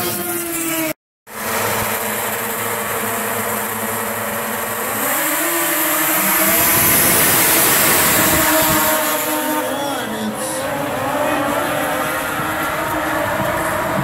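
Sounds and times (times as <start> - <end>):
snowmobile engines racing: 0.0 - 14.0.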